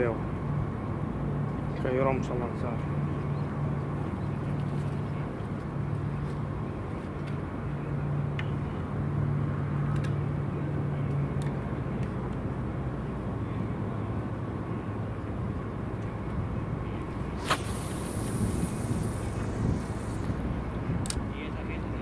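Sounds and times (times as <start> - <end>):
outdoor background noise: 0.0 - 22.0
low engine drone: 2.3 - 22.0.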